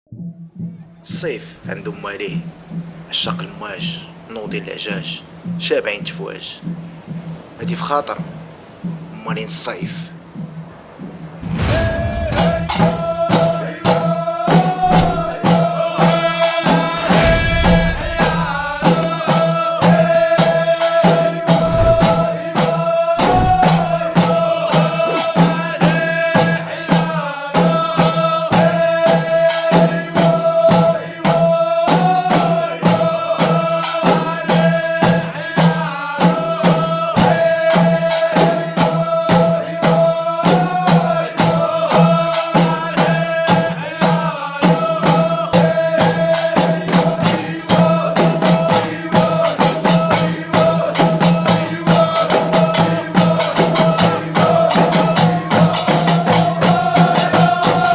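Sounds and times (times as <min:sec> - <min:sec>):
shaker and tambourine strokes: 0:11.4 - 0:57.9.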